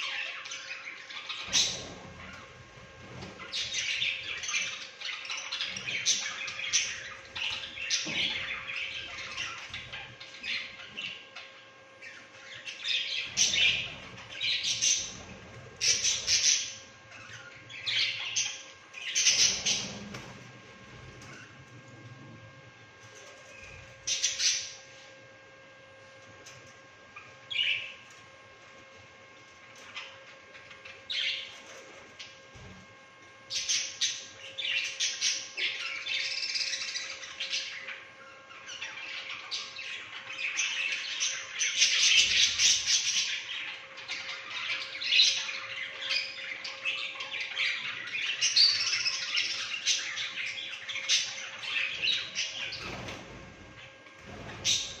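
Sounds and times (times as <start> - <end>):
budgerigars chirping and chattering: 0.0 - 20.4, 23.6 - 24.8, 29.8 - 31.6, 33.5 - 53.4, 54.2 - 55.0.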